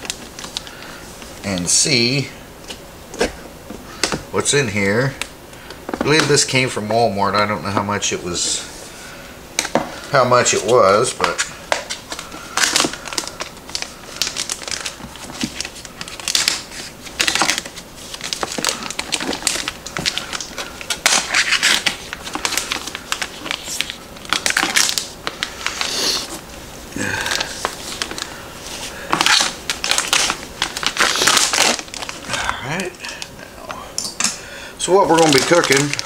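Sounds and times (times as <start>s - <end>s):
plastic wrapping crinkling and tearing: 0.0s - 3.4s, 4.0s - 6.9s, 9.6s - 33.6s, 34.2s - 36.0s.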